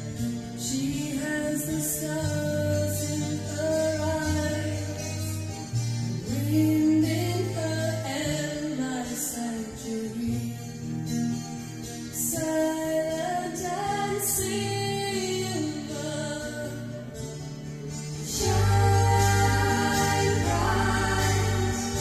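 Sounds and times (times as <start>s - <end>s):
song with singing from cassette: 0.0s - 11.0s, 12.1s - 22.0s.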